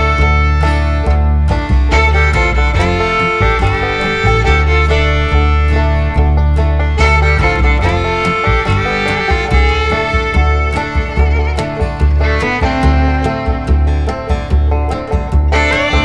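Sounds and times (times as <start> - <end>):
bluegrass instrumental with fiddle: 0.0 - 16.0.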